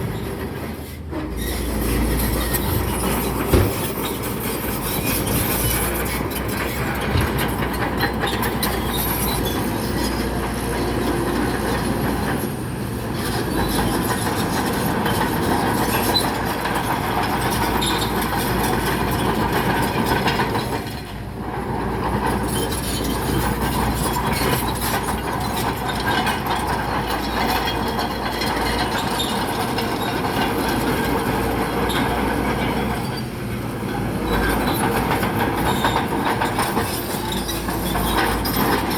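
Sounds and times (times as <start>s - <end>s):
bulldozer engine running: 0.0s - 38.9s
bulldozer tracks clanking and squealing: 0.0s - 38.9s.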